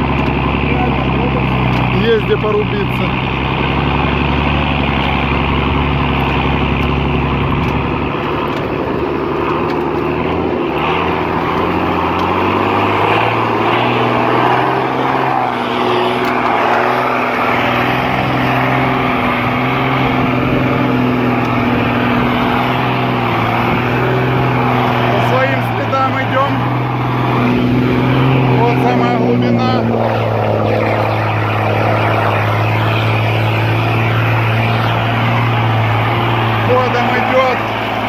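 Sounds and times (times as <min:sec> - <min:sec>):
truck engine running under load: 0:00.0 - 0:38.0
truck pushing through water: 0:00.0 - 0:38.0.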